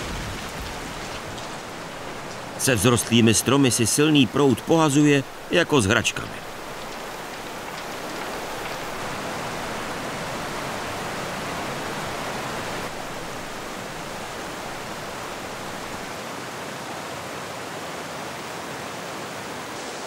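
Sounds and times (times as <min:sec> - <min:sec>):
river water roaring: 0:00.0 - 0:20.0.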